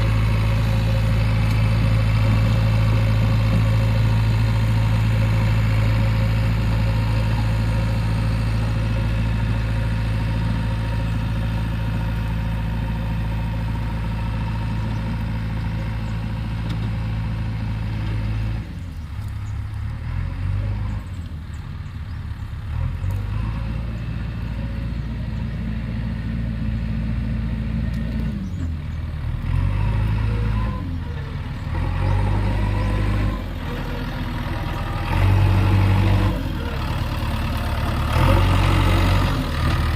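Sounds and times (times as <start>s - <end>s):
backhoe loader diesel engine: 0.0s - 39.9s.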